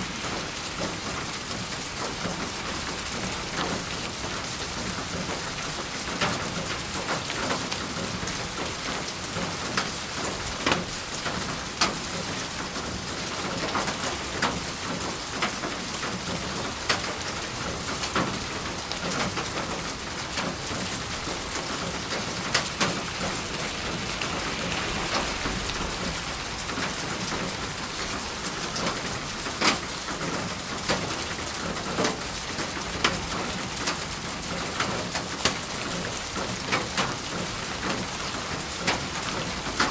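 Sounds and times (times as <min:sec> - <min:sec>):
steady rain hiss: 0:00.0 - 0:39.9
raindrops ticking close by: 0:00.1 - 0:39.9.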